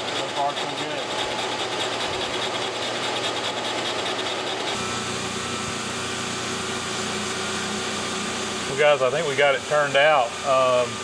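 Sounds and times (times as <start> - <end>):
lathe running and cutting: 0.0 - 11.0
steady machine hum: 0.0 - 11.0.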